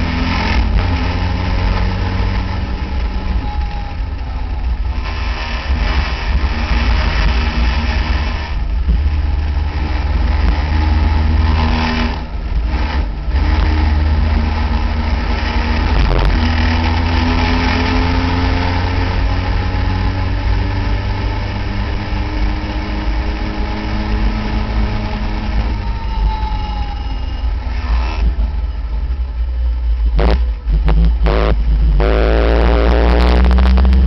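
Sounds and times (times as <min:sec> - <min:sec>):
racing car engine accelerating: 0:00.0 - 0:34.0.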